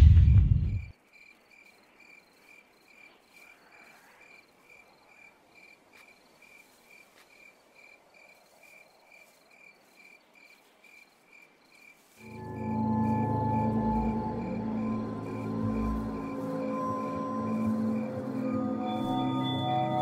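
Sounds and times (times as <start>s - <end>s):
faint cricket chirping: 0.6s - 20.0s.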